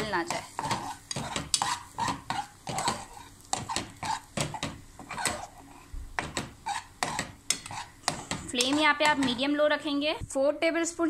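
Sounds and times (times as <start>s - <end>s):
spoon scraping a metal pan: 0.0s - 9.6s.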